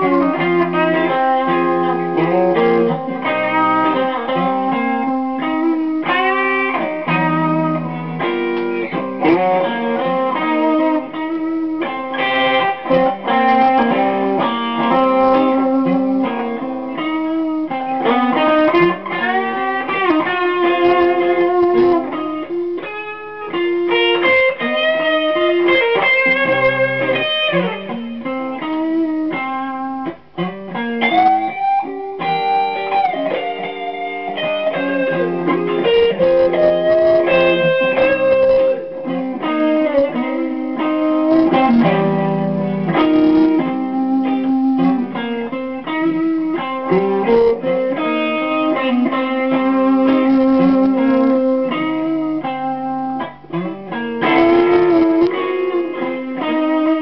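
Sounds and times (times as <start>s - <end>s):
electric guitar blues lead: 0.0s - 57.0s.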